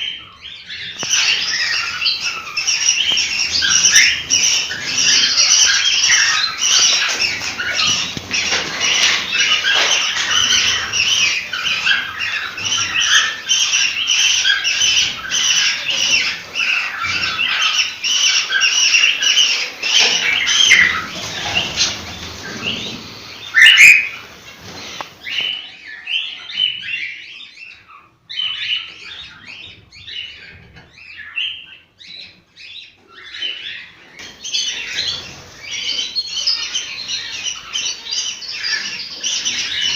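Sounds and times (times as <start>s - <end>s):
cockatiels chirping: 0.0s - 39.9s.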